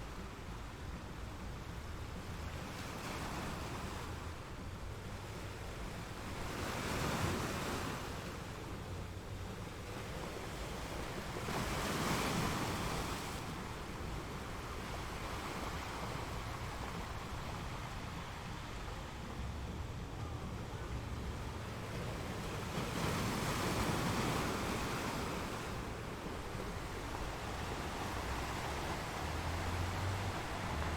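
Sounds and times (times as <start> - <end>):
ocean waves on shore: 0.0 - 30.9.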